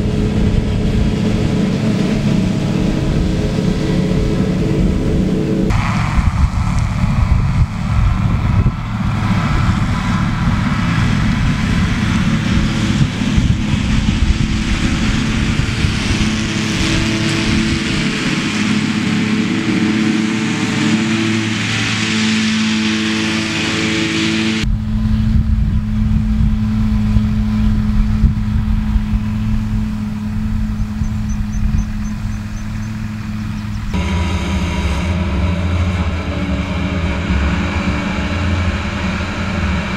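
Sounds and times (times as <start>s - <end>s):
disc mower cutting grass: 0.0s - 39.9s
hay machinery hissing and whirring: 0.0s - 39.9s
tractor engine running: 0.0s - 39.9s.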